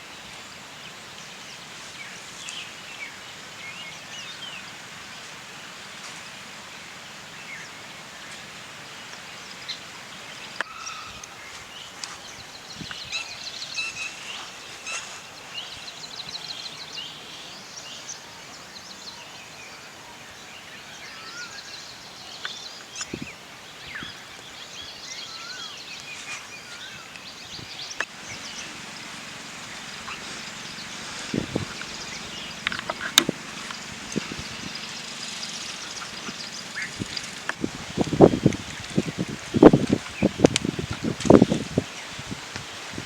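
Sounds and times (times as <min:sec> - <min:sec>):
outdoor background noise: 0:00.0 - 0:43.0
small birds chirping: 0:00.0 - 0:43.0.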